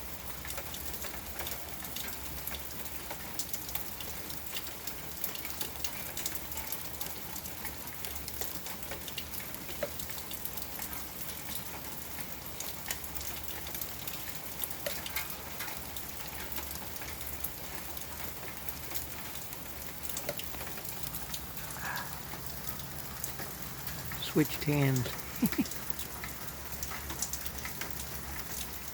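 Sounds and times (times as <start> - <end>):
light rain falling: 0.0 - 28.9
raindrops clicking: 0.3 - 28.9.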